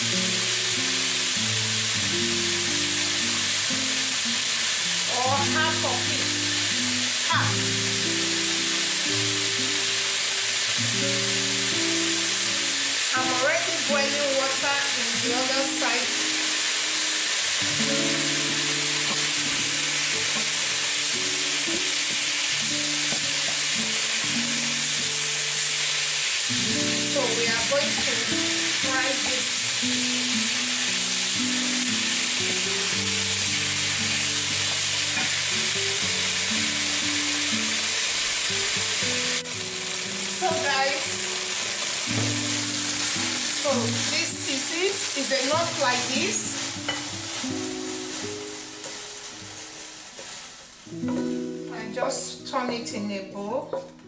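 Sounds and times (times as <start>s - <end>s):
background music: 0.0s - 50.1s, 50.8s - 54.0s
chicken and onions sizzling in pan: 0.0s - 53.8s.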